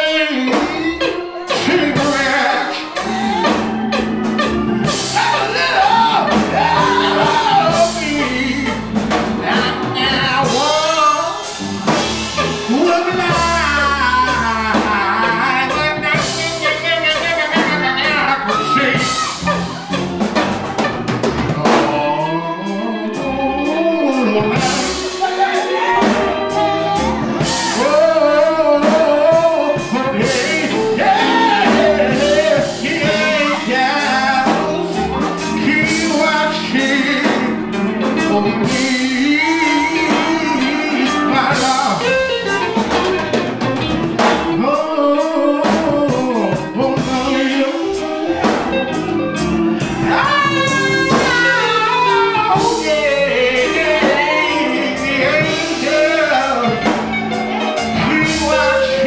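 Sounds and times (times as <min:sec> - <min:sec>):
man singing gospel into microphone: 0:00.0 - 0:19.6, 0:20.8 - 0:59.0
instrumental accompaniment with drums: 0:00.0 - 0:59.0.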